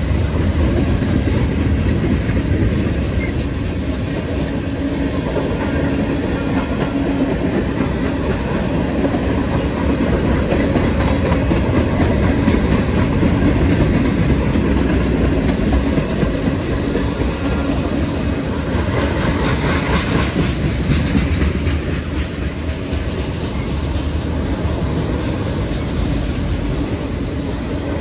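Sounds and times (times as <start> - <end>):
freight train wheels rolling on rails: 0.0 - 28.0.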